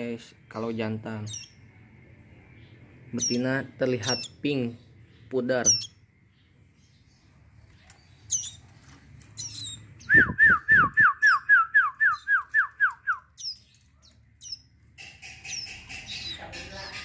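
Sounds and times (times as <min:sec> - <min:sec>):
young birds chirping: 0:00.0 - 0:17.0.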